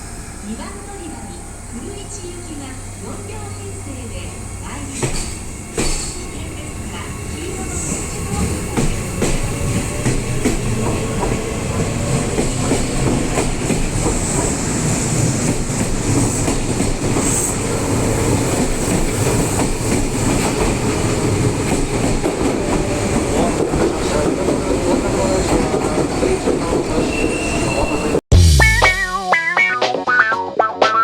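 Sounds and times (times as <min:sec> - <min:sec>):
electric train wheels clattering: 0:00.0 - 0:28.2.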